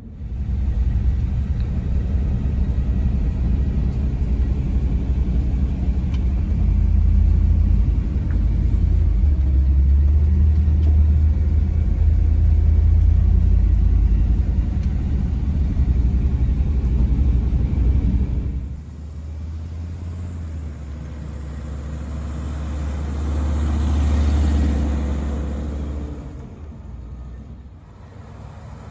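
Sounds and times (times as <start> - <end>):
car engine and exhaust rumbling: 0.0 - 28.9.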